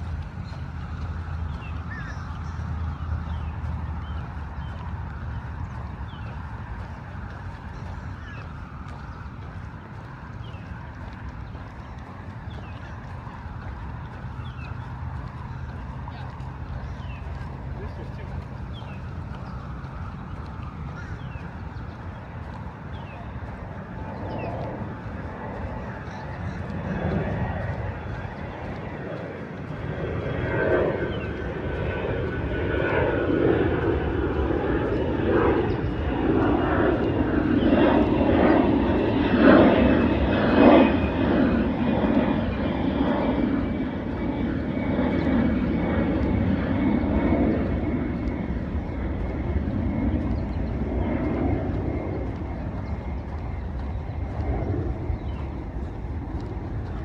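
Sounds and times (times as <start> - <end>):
jet airliner rumbling overhead: 0.0 - 57.0.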